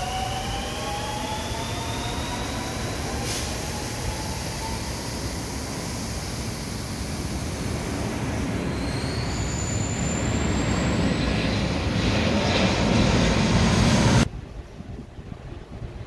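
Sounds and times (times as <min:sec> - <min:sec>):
electric train whine: 0:00.0 - 0:14.3
rail rumble: 0:00.0 - 0:16.0.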